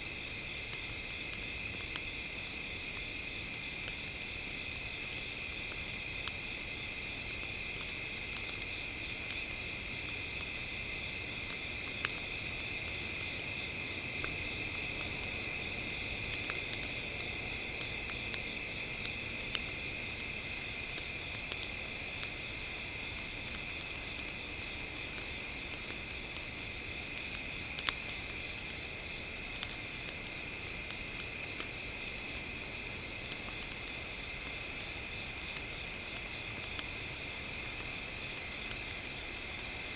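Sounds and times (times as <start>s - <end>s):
campfire crackling and popping: 0.0s - 39.9s
high-pitched insect-like hiss: 0.0s - 39.9s.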